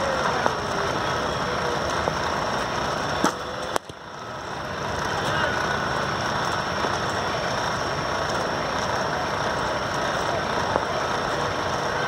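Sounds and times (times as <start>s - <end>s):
steady outdoor noise: 0.0s - 12.0s.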